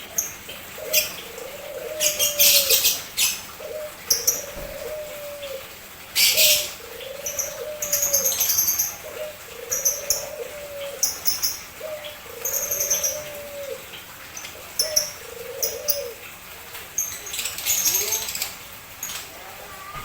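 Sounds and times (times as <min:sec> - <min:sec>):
caged birds chirping: 0:00.0 - 0:20.0
low drawn-out cooing: 0:00.6 - 0:13.9, 0:14.6 - 0:16.7, 0:19.3 - 0:20.0.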